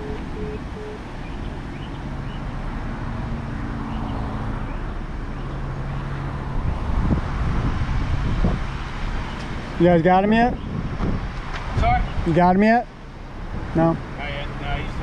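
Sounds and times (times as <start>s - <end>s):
road traffic: 0.0s - 15.0s
vehicle engine humming: 0.0s - 15.0s.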